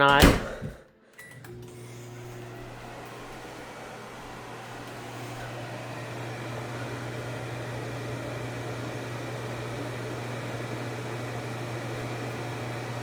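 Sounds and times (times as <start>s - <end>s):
microwave oven humming: 1.2s - 13.0s.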